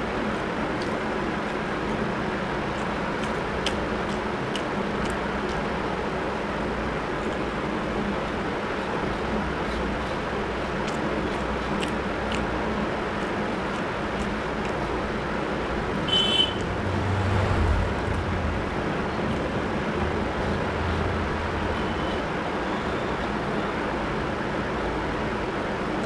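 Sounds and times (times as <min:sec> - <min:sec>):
background traffic noise: 0:00.0 - 0:26.0
vehicles passing rumble: 0:00.0 - 0:26.0.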